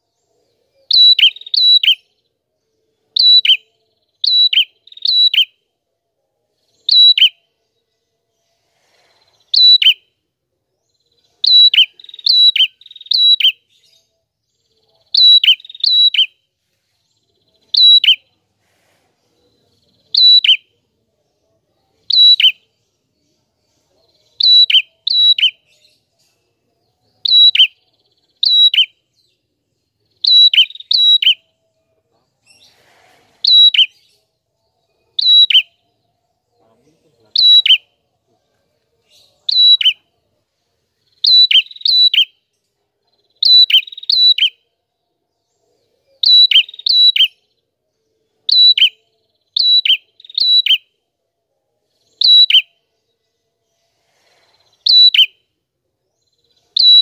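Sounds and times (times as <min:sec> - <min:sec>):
songbird chirping: 0:00.0 - 0:57.0.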